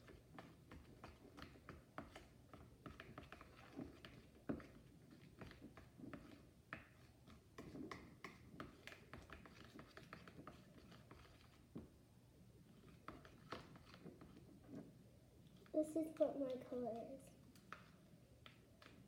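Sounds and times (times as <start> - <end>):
utensil stirring glue in a bowl: 0.0 - 19.0.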